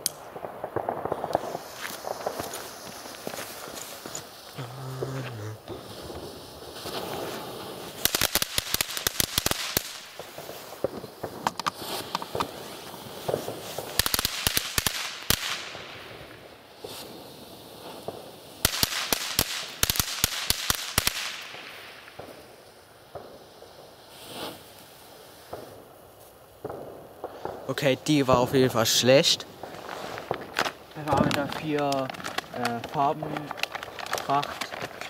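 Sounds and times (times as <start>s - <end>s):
firework crackling: 0.0s - 35.0s
firework fountain hissing: 0.0s - 35.0s.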